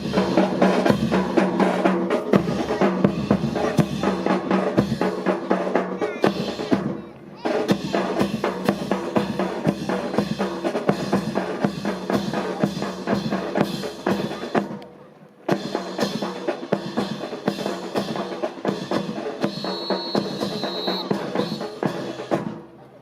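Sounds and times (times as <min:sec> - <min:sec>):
marching snare and bass drums: 0:00.0 - 0:22.8.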